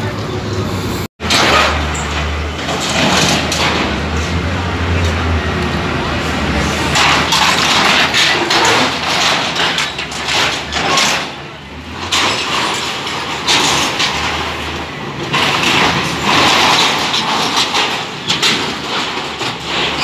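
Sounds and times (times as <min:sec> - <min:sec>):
excavator diesel engine under load: 0:00.0 - 0:20.0
metal frame scraping and crunching: 0:01.2 - 0:05.3, 0:06.2 - 0:20.0.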